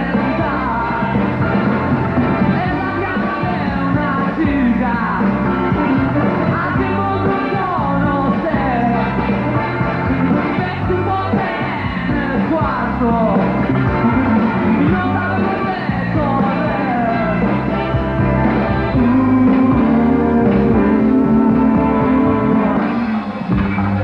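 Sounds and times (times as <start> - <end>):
person singing: 0.0 - 1.7, 2.4 - 9.5, 10.3 - 24.0
rock band playing: 0.0 - 24.0.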